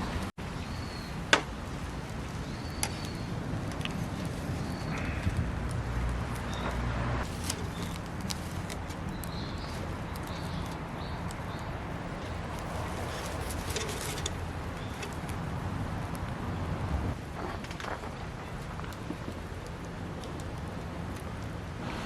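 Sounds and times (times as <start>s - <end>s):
campfire crackling and popping: 1.2s - 16.5s, 17.1s - 21.8s.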